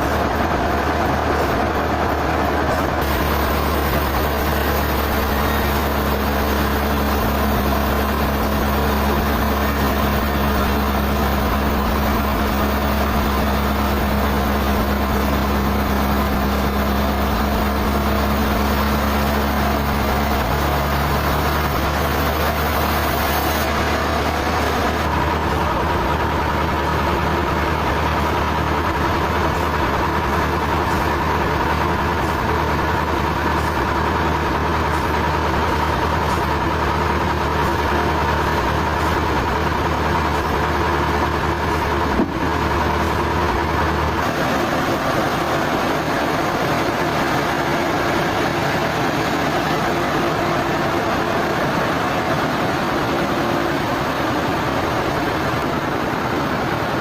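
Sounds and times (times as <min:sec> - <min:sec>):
sawmill machinery droning: 0:00.0 - 0:57.0
steady whine: 0:00.0 - 0:57.0.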